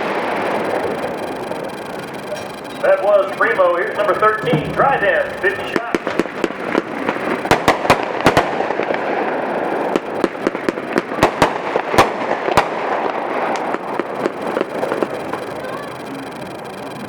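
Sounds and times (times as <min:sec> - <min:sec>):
continuous wash of noise: 0:00.0 - 0:17.0.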